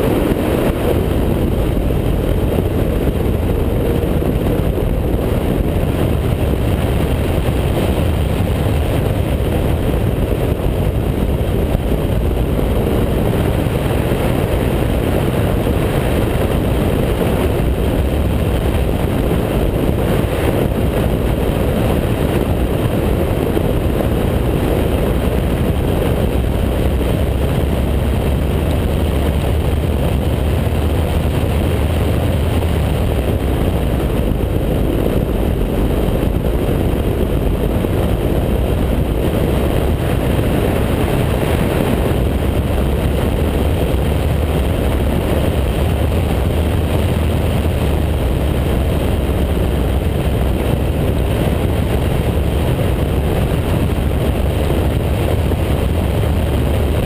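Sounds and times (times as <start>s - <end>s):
race car engine running hard: 0.0s - 57.0s
wind rushing over microphone: 0.0s - 57.0s.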